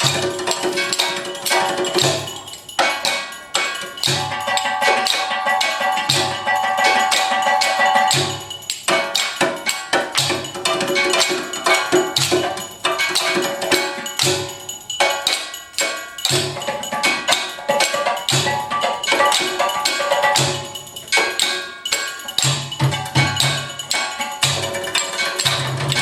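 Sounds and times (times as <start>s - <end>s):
percussion-led music: 0.0s - 26.0s.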